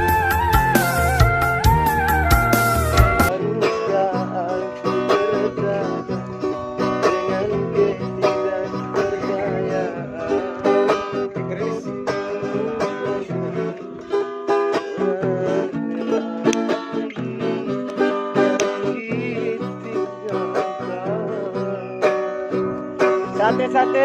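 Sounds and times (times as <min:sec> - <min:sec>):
plucked string instrumental music: 0:00.0 - 0:24.0.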